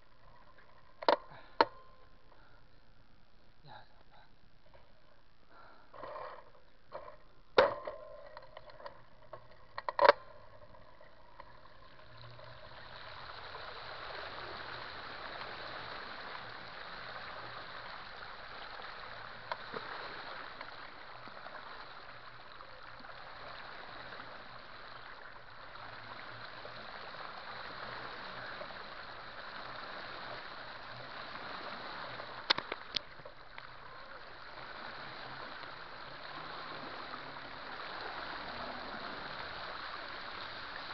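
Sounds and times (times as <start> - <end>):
floodwater rushing in creek: 7.6 - 40.9.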